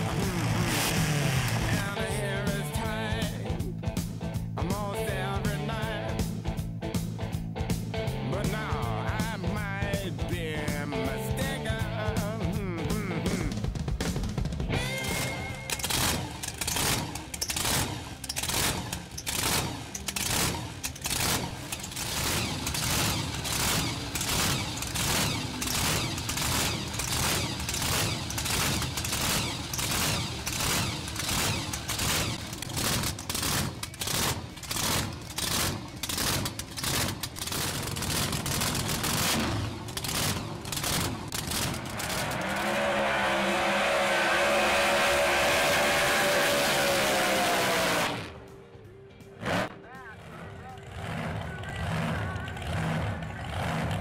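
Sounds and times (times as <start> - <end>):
drag-racing engine loping: 0.0 - 48.6, 49.2 - 54.0.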